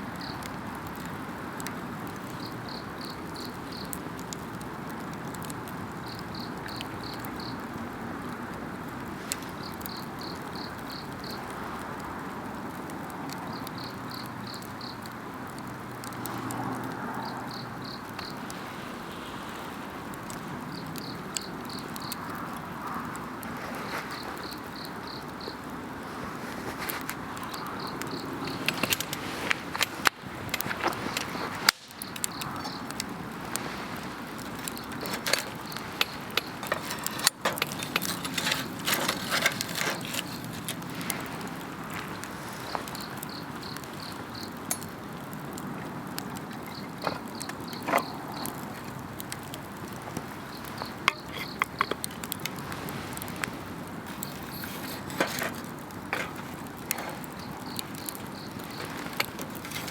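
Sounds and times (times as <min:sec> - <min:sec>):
insects chirping: 0:00.0 - 0:01.2, 0:02.2 - 0:04.1, 0:05.6 - 0:12.2, 0:13.1 - 0:15.1, 0:15.9 - 0:59.9
campfire crackling and popping: 0:00.0 - 0:59.9.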